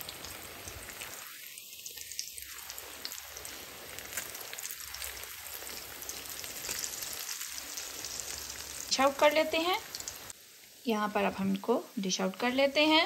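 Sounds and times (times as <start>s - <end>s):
cutlets frying in oil: 0.0s - 13.0s.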